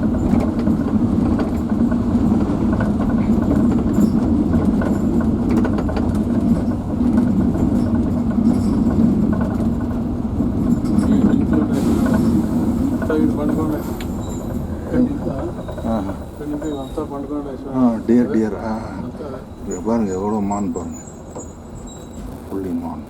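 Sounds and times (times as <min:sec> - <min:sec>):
bus body rattling: 0:00.0 - 0:22.9
bus engine rumbling: 0:00.0 - 0:23.0.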